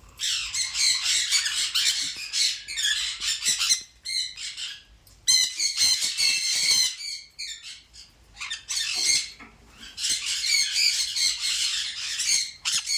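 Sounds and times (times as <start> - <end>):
birds chattering and squawking: 0.1 - 12.9.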